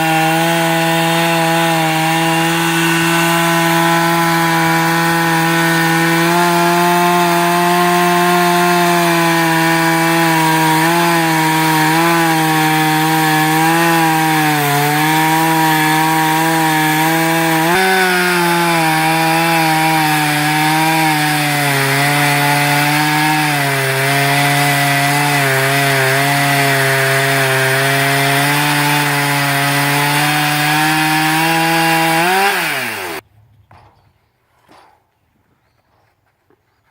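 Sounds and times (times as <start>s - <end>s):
sawmill humming: 0.0s - 33.2s.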